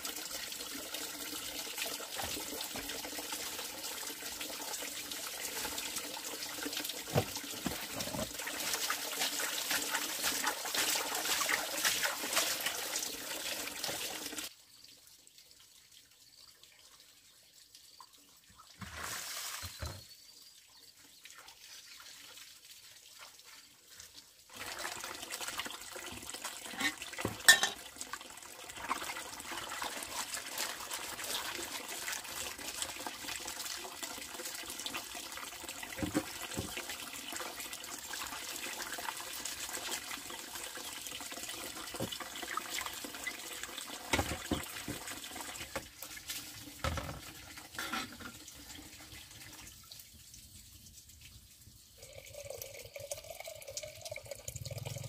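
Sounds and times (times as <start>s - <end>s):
water pouring into plastic basin: 0.0s - 14.5s, 18.6s - 20.0s, 21.6s - 55.0s.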